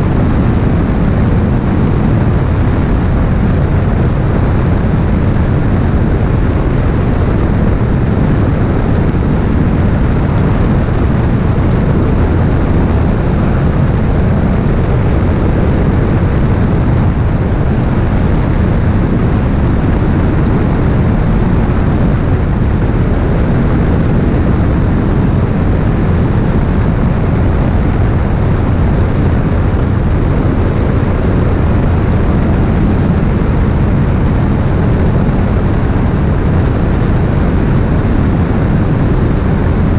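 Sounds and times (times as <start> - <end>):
propeller plane engine drone: 0.0 - 39.9
wind rushing over microphone: 0.0 - 39.9.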